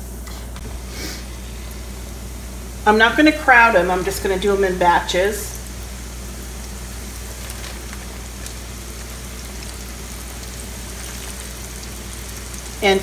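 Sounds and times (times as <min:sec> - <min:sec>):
oil sizzling: 0:00.6 - 0:13.0.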